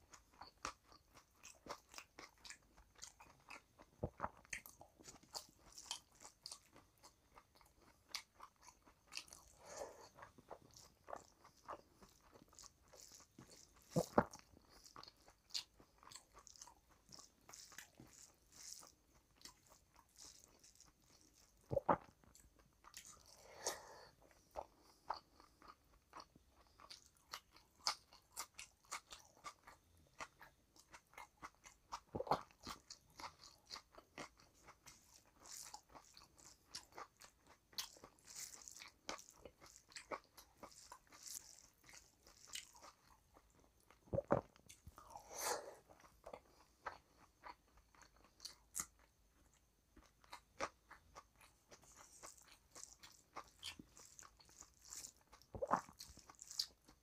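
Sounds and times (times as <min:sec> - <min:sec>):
person chewing with mouth smacks: 0:00.0 - 0:57.0.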